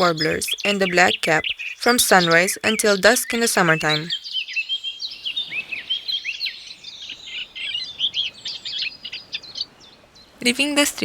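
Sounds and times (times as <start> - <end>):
warbler singing: 0.0 - 11.0.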